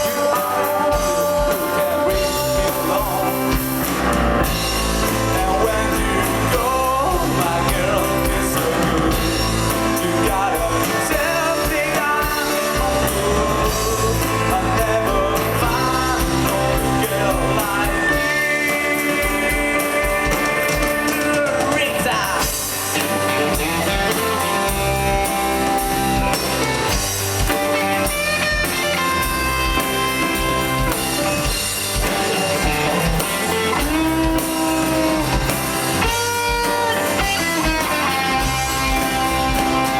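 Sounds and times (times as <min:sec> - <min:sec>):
rock band music: 0:00.0 - 0:39.9.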